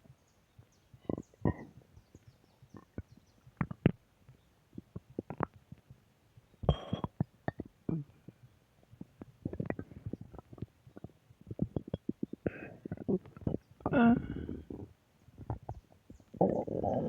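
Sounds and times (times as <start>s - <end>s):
stomach growling and gurgling: 1.0s - 1.9s, 2.7s - 4.0s, 4.8s - 5.9s, 6.6s - 17.0s.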